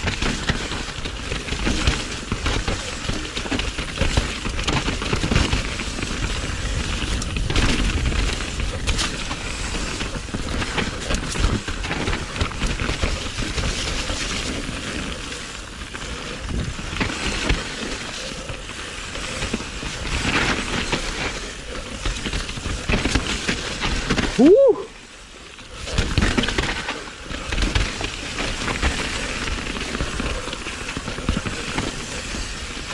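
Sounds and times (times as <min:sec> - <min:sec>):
bike clattering over bumps: 0:00.0 - 0:24.4, 0:25.8 - 0:32.9
tyre and trail noise: 0:00.0 - 0:32.9
wind rumble on microphone: 0:00.0 - 0:32.9.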